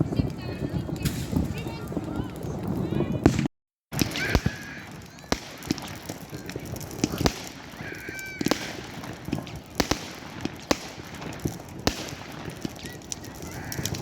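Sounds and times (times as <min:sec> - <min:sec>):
fireworks bangs and cracks: 0:00.0 - 0:14.0.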